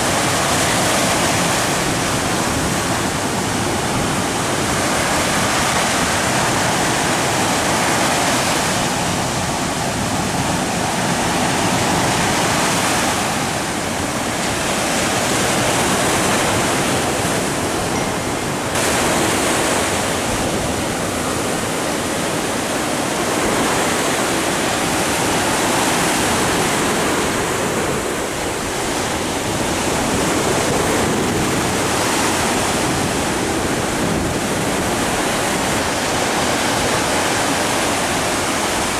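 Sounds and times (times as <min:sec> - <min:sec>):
surf breaking on rocks: 0:00.0 - 0:38.9.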